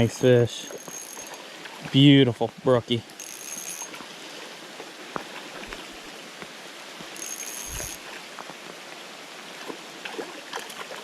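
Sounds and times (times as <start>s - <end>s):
rain and creek water hiss: 0.0s - 11.0s.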